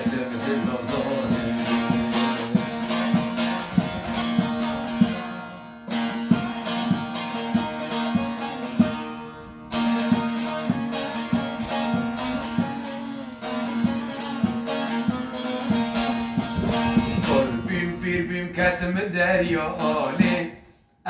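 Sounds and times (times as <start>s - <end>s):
plucked string instrument strumming: 0.0s - 20.8s.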